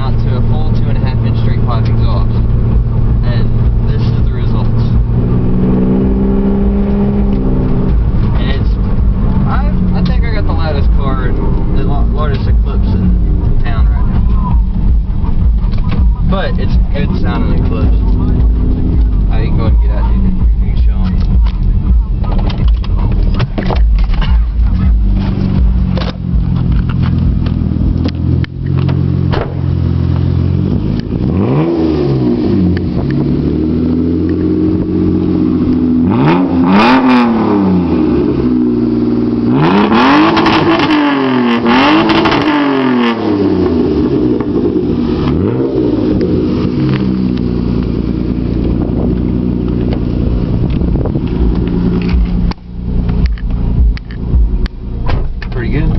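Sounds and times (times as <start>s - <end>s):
car engine idling and revving: 0.0s - 55.9s.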